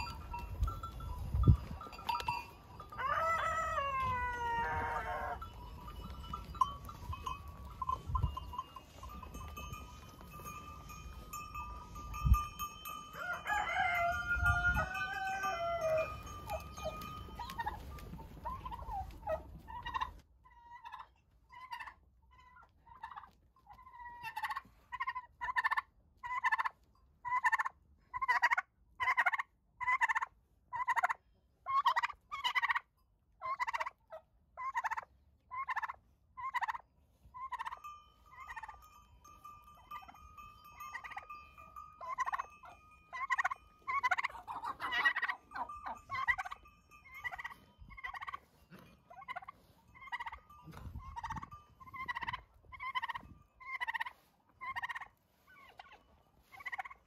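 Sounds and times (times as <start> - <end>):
turkeys gobbling calls: 1.8 - 10.4, 13.1 - 38.8, 40.8 - 41.3, 42.0 - 57.0.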